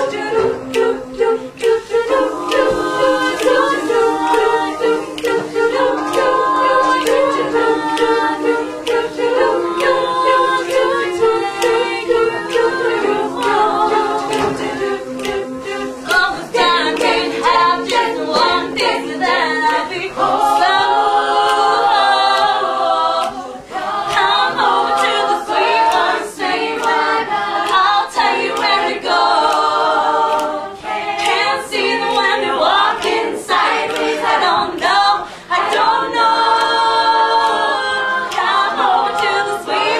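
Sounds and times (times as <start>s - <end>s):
women singing a cappella harmony: 0.0s - 39.9s.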